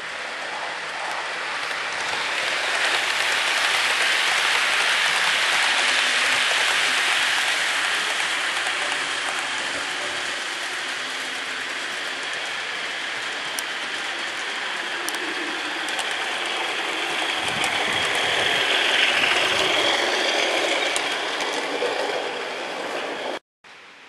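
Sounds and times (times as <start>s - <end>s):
model train wheels rattling: 0.9s - 23.4s.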